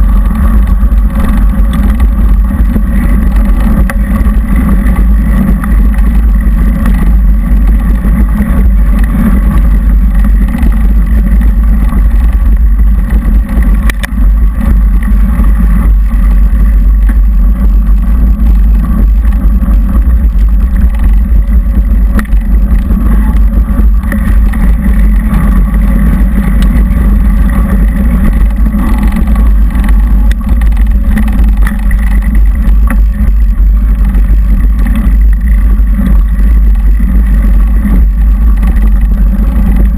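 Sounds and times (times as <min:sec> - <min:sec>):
bike trail vibration: 0:00.0 - 0:39.9
wind rumble: 0:00.0 - 0:39.9.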